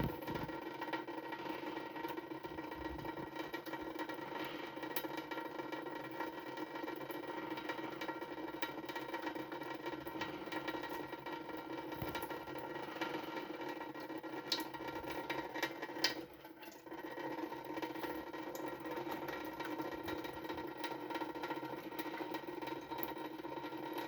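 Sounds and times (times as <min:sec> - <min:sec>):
small splashes and clicks: 0:00.0 - 0:00.6, 0:02.5 - 0:24.0
tap water running into sink: 0:00.0 - 0:01.3, 0:01.9 - 0:24.0.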